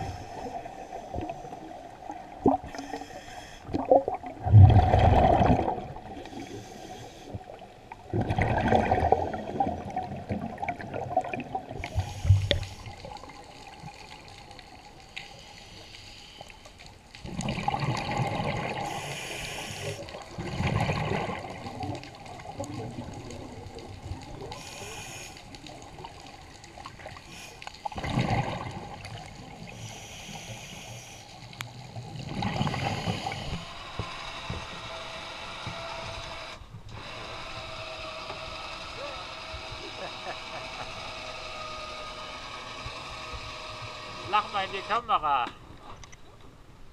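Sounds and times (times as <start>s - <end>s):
quiet underwater gurgling: 0.0s - 46.9s.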